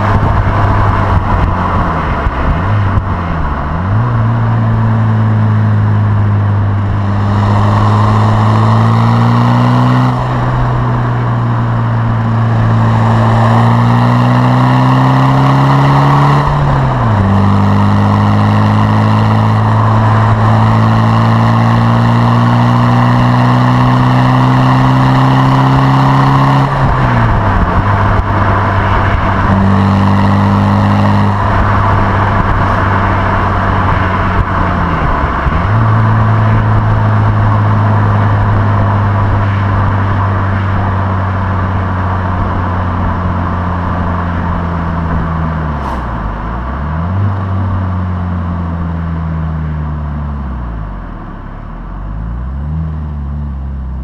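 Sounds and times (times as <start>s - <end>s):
diesel exhaust drone: 0.0s - 54.0s
road and wind noise: 0.0s - 54.0s.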